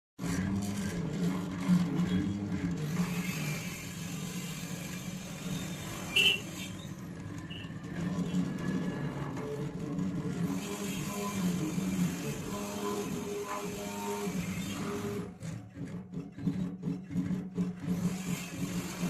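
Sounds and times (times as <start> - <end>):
stepper motors whirring: 0.2 - 19.0.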